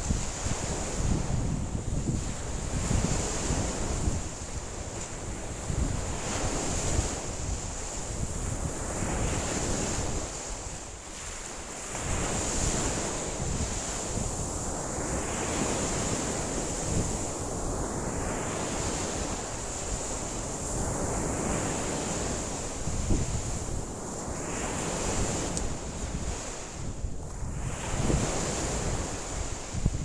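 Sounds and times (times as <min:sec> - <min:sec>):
waves breaking against shore: 0:00.0 - 0:30.0
wind buffeting microphone: 0:00.0 - 0:30.0.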